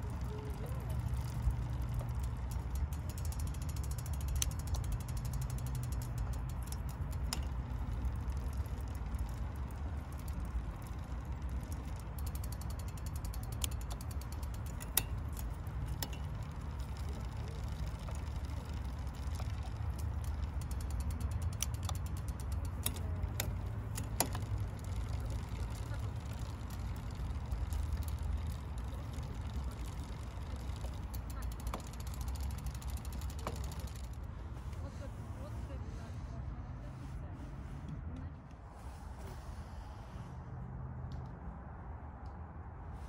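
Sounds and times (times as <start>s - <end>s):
derailleur shifting clicks: 0.0s - 34.8s
bicycle chain ticking: 0.0s - 35.0s.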